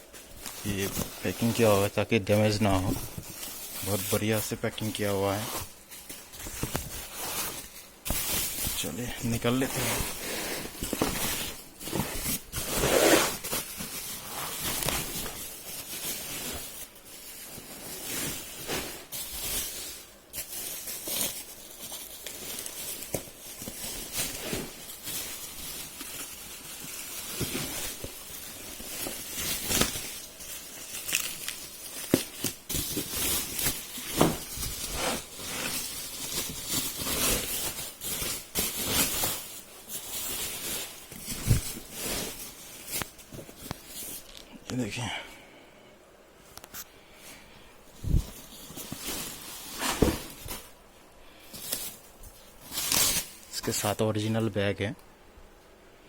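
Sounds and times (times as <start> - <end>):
packing material rustling: 0.0 - 45.1, 46.6 - 54.5.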